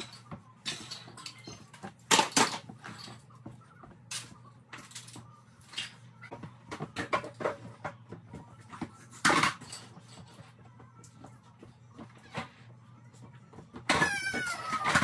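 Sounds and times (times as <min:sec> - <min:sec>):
toys clattering and knocking: 0:00.0 - 0:11.2, 0:13.6 - 0:15.0.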